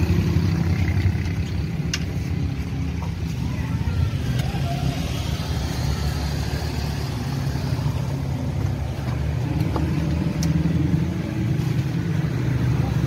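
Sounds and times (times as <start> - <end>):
road traffic engine rumble: 0.0 - 13.0.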